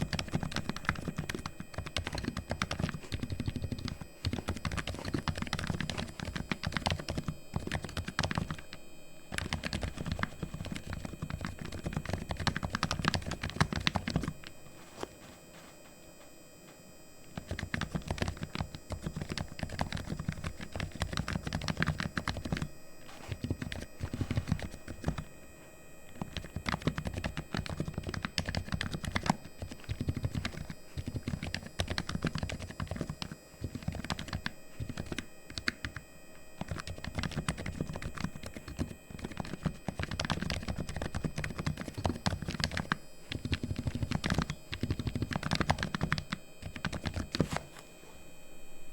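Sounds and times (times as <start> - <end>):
keyboard typing: 0.0 - 15.1, 17.4 - 25.3, 26.1 - 36.0, 36.6 - 47.7.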